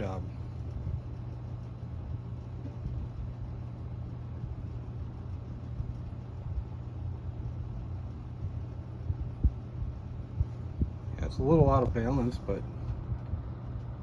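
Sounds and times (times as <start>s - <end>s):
fan motor hum: 0.0s - 14.0s.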